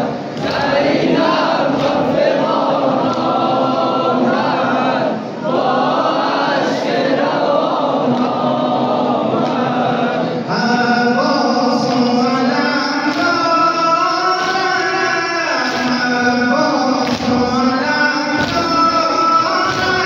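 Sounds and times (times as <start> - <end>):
group of men chanting: 0.0 - 20.0.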